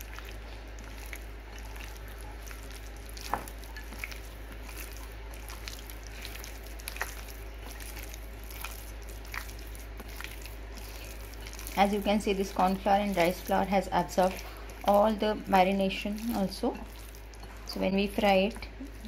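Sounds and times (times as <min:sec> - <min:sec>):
hand squelching wet chicken: 0:00.0 - 0:19.0.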